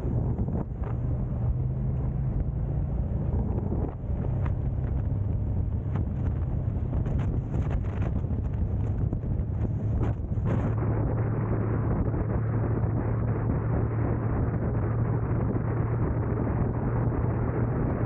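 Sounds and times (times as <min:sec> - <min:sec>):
car engine and road rumble: 0:00.0 - 0:18.0
wind buffeting microphone: 0:00.0 - 0:18.0.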